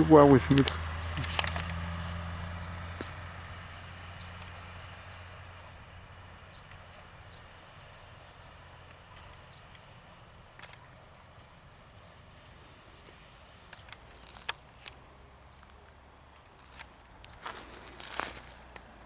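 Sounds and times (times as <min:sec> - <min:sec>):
garbage truck engine humming: 0:00.0 - 0:19.0.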